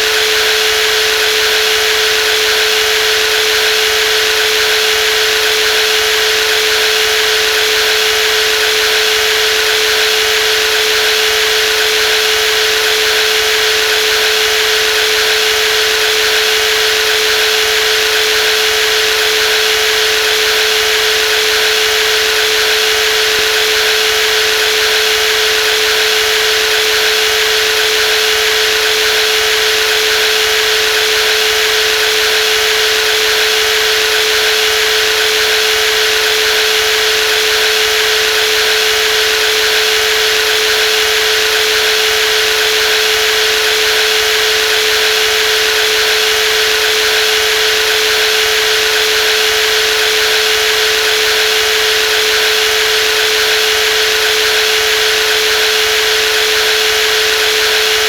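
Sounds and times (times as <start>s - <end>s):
jigsaw running: 0.0s - 58.0s.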